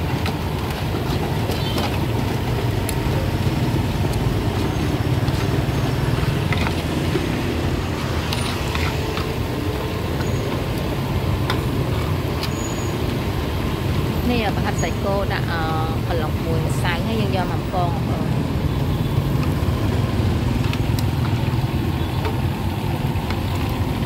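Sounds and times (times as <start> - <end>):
low rumble of passing traffic: 0.0 - 24.0.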